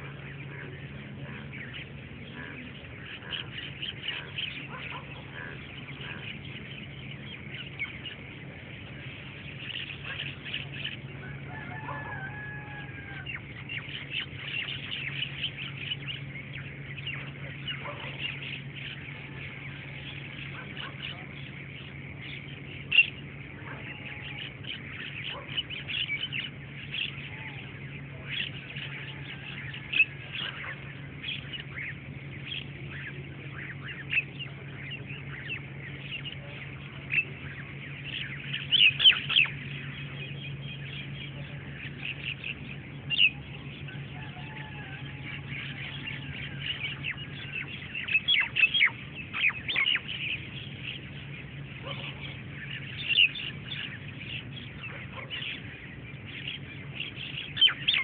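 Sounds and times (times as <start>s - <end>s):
birds chirping and squawking: 0.0s - 58.0s
steady low hum: 0.0s - 58.0s.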